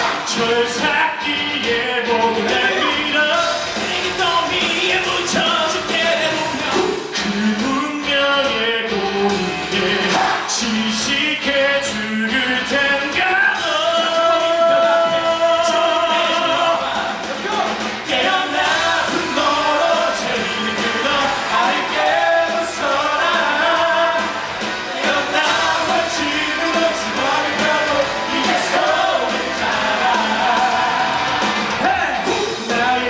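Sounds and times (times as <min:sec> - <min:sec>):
loud rock band playing: 0:00.0 - 0:33.0
singers performing rock song: 0:00.0 - 0:33.0.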